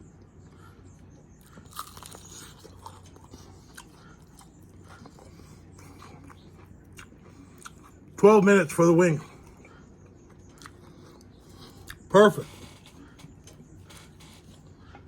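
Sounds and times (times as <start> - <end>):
chewing crispy chicken: 0.0 - 15.0.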